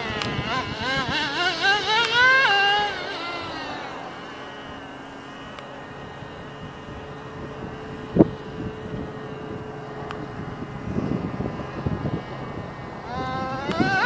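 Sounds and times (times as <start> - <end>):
distant small engine whine: 0.0 - 14.0.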